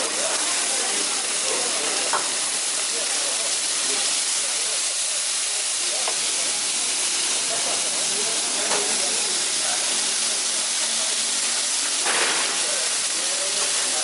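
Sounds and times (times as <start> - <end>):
fish sizzling on a grill: 0.0 - 14.0.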